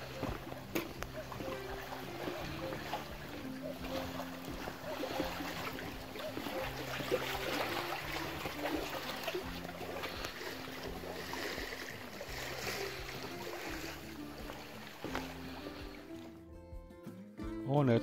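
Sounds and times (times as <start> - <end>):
small waves lapping on shore: 0.0 - 16.4
soft background music: 0.0 - 18.0.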